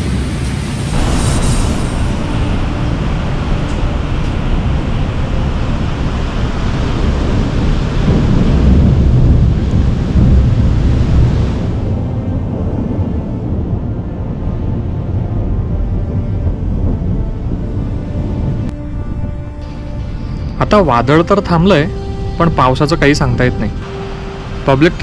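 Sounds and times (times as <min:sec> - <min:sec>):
thunder rumbling: 0:00.0 - 0:25.0
wind rumbling: 0:00.0 - 0:25.0.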